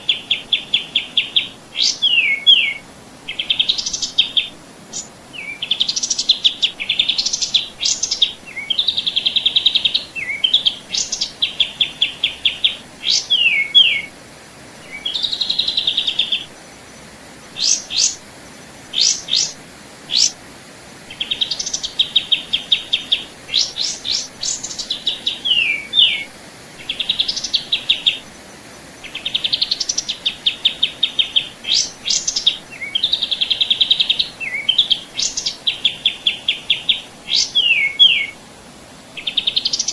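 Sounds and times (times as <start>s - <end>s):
songbird singing buzzy trills: 0.0s - 39.9s.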